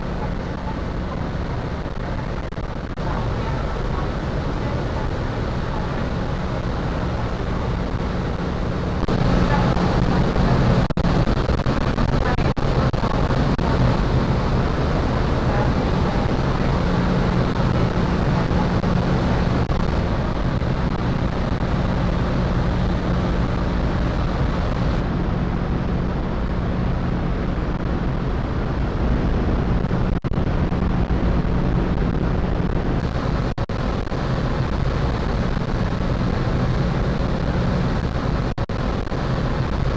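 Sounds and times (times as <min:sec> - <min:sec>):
ferry engines droning: 0:00.0 - 0:39.9.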